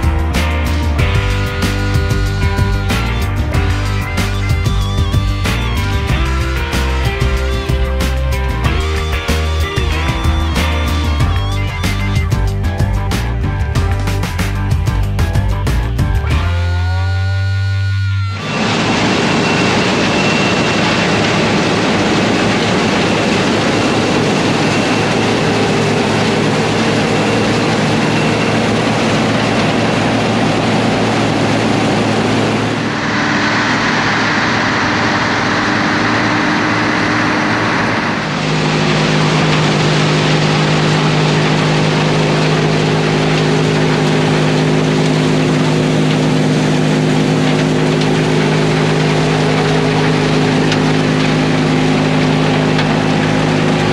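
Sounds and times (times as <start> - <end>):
silage machinery running: 0.0 - 53.9
tractor engines running: 0.0 - 53.9.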